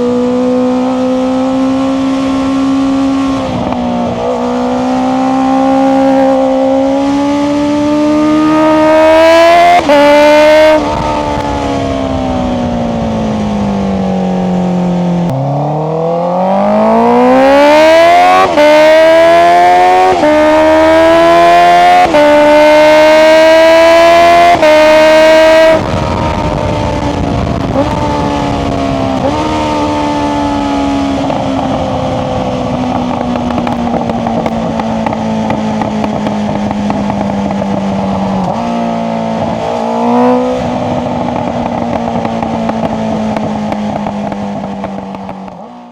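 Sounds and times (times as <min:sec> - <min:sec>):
motorcycle engine accelerating: 0:00.0 - 0:45.9
exhaust crackling on overrun: 0:00.8 - 0:45.9.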